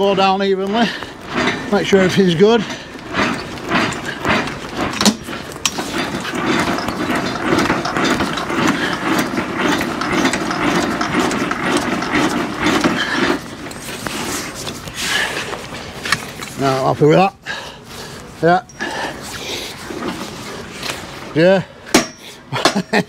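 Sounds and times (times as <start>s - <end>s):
crank-wound gear mechanism: 0.0s - 17.0s, 18.5s - 22.5s.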